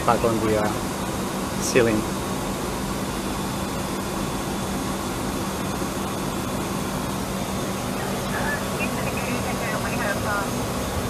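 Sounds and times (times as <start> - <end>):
air-conditioning airflow rushing: 0.0 - 11.0
low even hum: 0.0 - 11.0.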